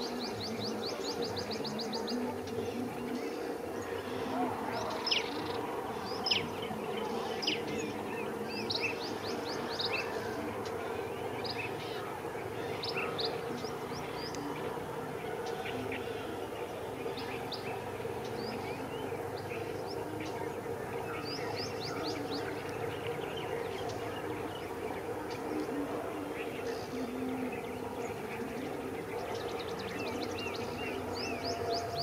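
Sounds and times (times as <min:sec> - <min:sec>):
insects droning: 0:00.0 - 0:32.0
small birds chirping: 0:00.0 - 0:32.0.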